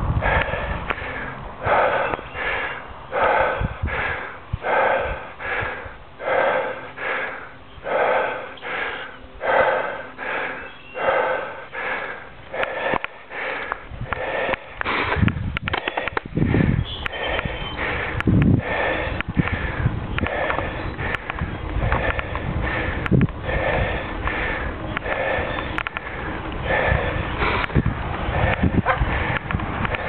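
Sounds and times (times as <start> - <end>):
person breathing hard: 0.0 - 30.0.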